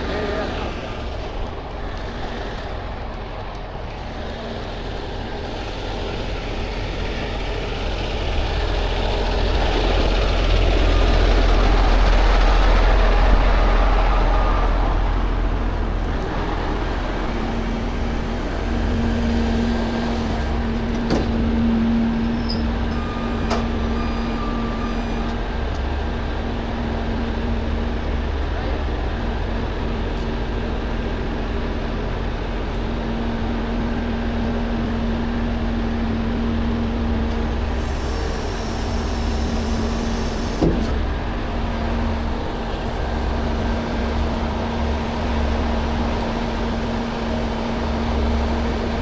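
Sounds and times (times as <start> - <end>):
truck engine rumbling: 0.0 - 49.0
low hum: 4.4 - 49.0.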